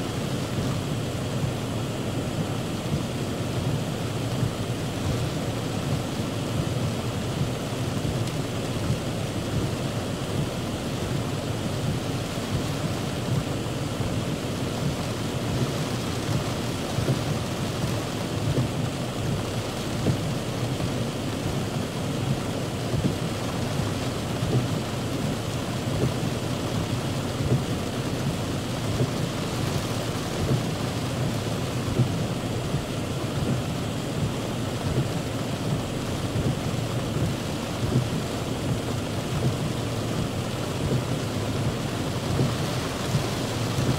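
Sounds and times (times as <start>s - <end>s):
heavy rain on car roof: 0.0s - 43.9s.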